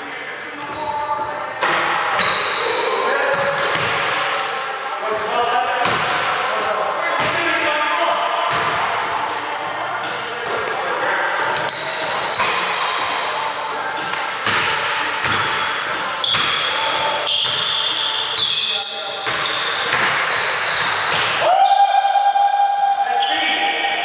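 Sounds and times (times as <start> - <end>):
indistinct voices echoing: 0.0 - 24.0.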